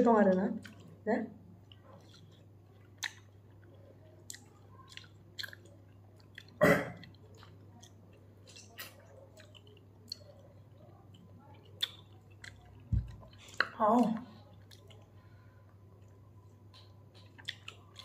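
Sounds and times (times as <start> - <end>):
faint steady hum: 0.0 - 18.0
person chewing with wet mouth sounds: 0.2 - 18.0.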